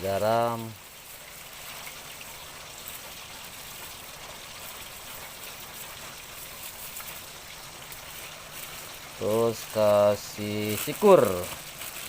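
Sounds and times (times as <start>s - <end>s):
faint drip-like ticks: 0.3s - 12.0s.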